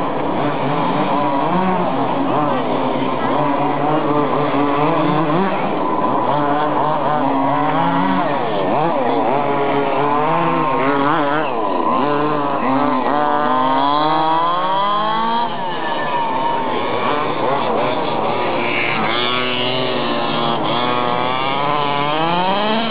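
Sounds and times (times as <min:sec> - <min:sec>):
small two-stroke engines revving: 0:00.0 - 0:22.9.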